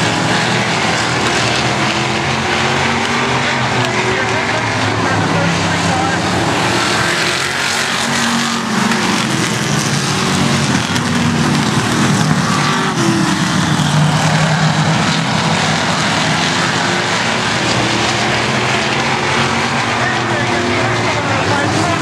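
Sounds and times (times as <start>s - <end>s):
stock car engines racing: 0.0s - 22.0s.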